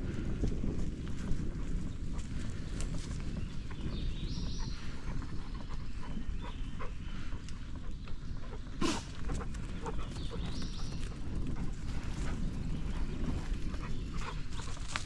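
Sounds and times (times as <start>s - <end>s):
dogs running: 0.0s - 15.0s
wind and tyres rumbling: 0.0s - 15.0s.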